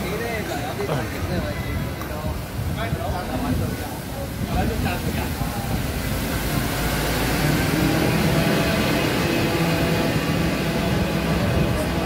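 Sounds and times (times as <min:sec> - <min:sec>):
road traffic engines running: 0:00.0 - 0:12.0.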